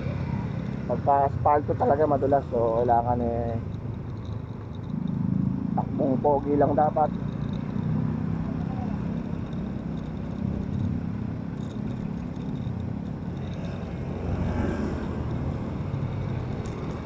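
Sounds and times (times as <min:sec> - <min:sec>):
car passing: 0:00.0 - 0:17.0
motorcycle engine running: 0:00.0 - 0:17.0
tyres on wet asphalt: 0:00.0 - 0:17.0.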